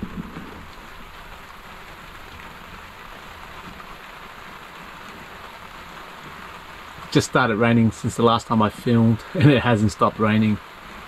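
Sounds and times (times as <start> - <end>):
steady rain hissing: 0.0 - 11.0.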